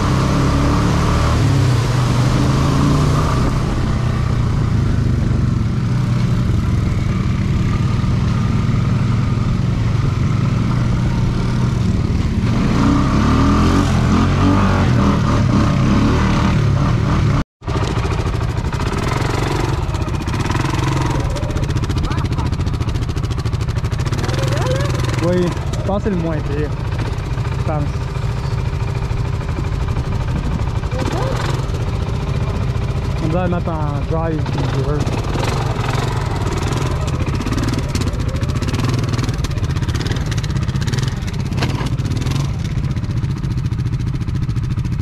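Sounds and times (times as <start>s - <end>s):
atv engine running under load: 0.0s - 45.0s.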